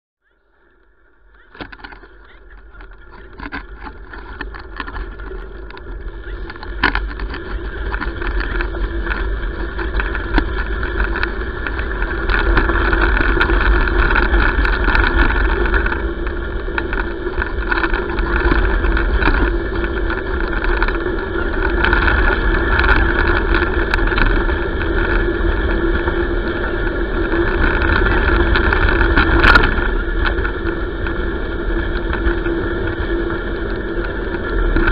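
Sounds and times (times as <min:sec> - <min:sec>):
bicycle tyres on gravel: 0:00.2 - 0:34.9
wind rumble on microphone: 0:00.3 - 0:34.9.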